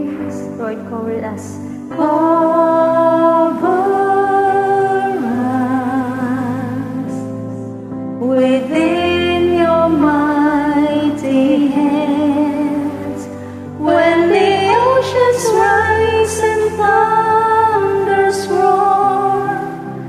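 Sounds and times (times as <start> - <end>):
soft sustained accompaniment: 0.0 - 20.0
women singing a duet: 1.4 - 7.4, 8.2 - 20.0.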